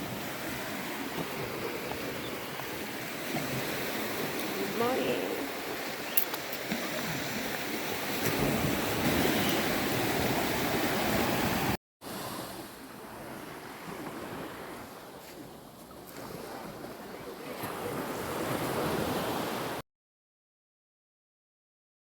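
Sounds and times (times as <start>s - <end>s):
sea surf washing: 0.0s - 19.8s
wind rumbling on microphone: 0.0s - 19.8s.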